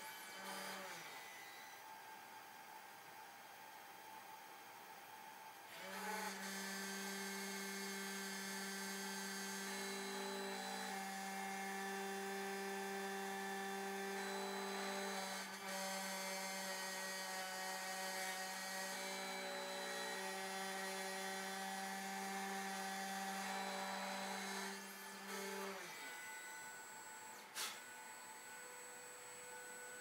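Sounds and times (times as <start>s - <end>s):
cnc spindle whine: 0.0s - 30.0s.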